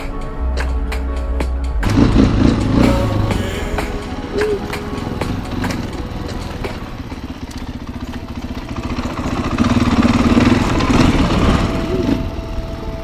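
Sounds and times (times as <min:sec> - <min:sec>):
dirt bike engine running: 0:01.9 - 0:13.0.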